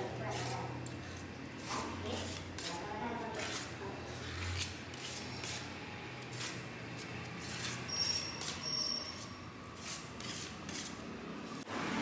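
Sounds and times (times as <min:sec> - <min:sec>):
putty knife scraping paste on wall: 0:00.2 - 0:11.0.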